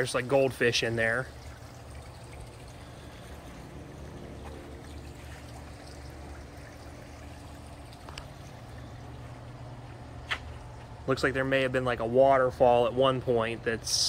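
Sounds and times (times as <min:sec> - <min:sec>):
fountain water trickling and splashing: 0:00.0 - 0:14.0
steady low hum: 0:00.0 - 0:14.0.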